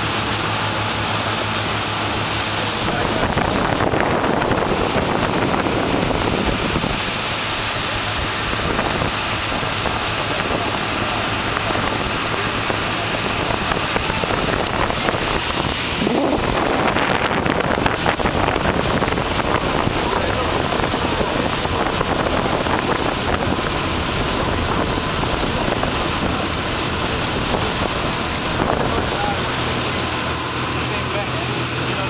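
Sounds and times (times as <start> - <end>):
boat engine: 0.0 - 32.0
water rushing past hull: 0.0 - 32.0
wind buffeting microphone: 1.9 - 31.8.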